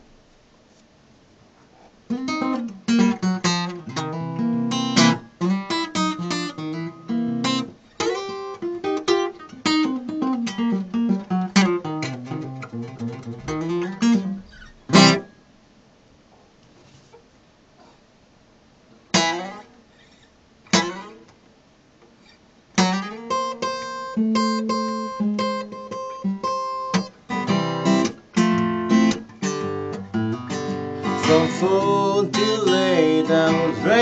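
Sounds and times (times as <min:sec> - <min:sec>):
fingerpicked acoustic guitar: 0:01.7 - 0:15.4, 0:19.1 - 0:21.4, 0:22.1 - 0:34.0.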